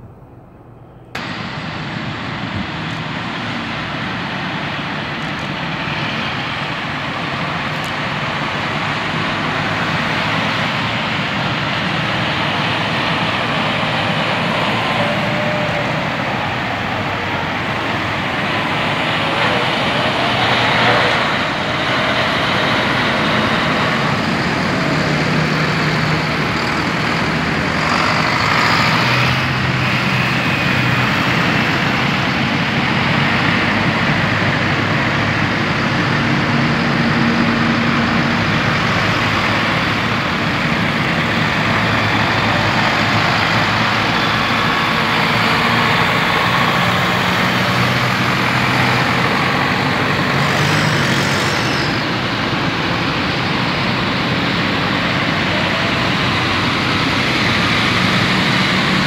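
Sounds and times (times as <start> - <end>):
tractor diesel engines: 0.0 - 59.0
traffic noise: 0.0 - 59.0.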